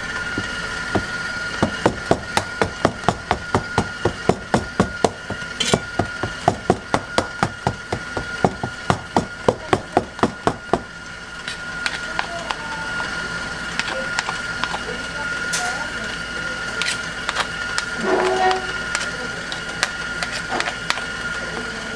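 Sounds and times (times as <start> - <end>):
steady high-pitched hum: 0.0 - 21.9.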